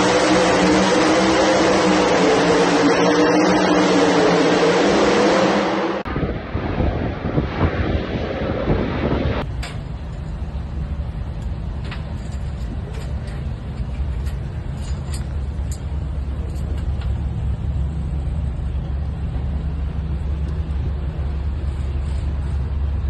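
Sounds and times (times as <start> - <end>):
heavy engine rumbling: 0.0 - 23.0.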